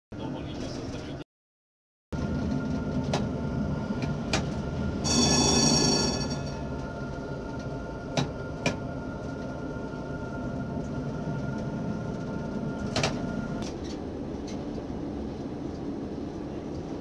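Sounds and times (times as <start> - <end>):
tram rumbling on tracks: 0.2 - 1.2, 2.2 - 17.0.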